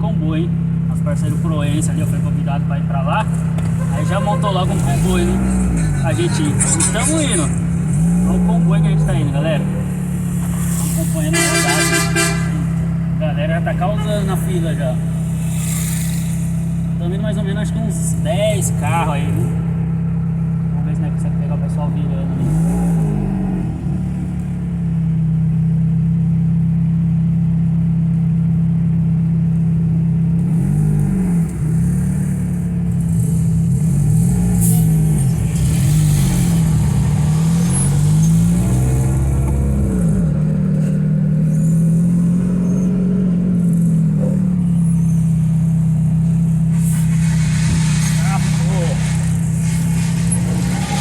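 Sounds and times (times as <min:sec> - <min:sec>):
car engines droning: 0:00.0 - 0:51.0
car engines rising and falling: 0:00.0 - 0:51.0.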